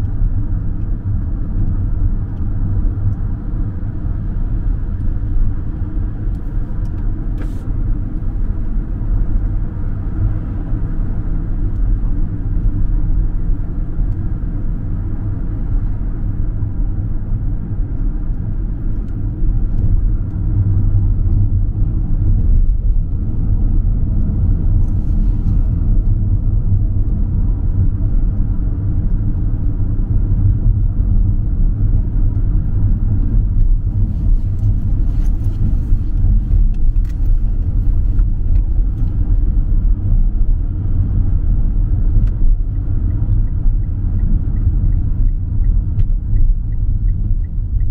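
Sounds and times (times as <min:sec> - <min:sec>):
car cabin road rumble: 0:00.0 - 0:47.9.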